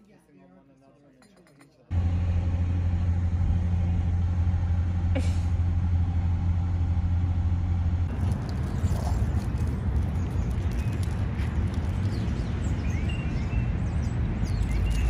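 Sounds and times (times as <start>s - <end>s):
car engine hum and road noise: 1.9s - 15.0s.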